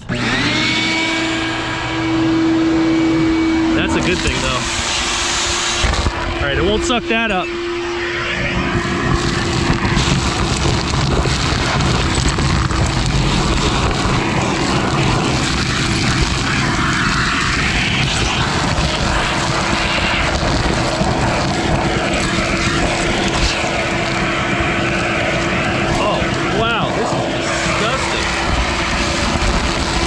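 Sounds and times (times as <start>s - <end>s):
shop vac motor whine: 0.0s - 30.0s
vacuum hose sucking debris: 0.0s - 30.0s.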